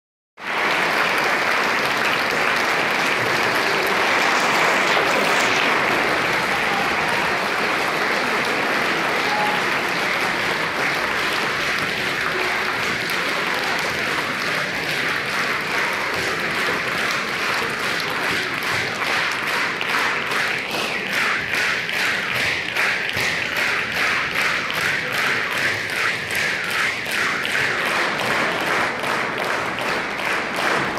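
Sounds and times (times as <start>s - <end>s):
audience applauding: 0.4s - 30.9s.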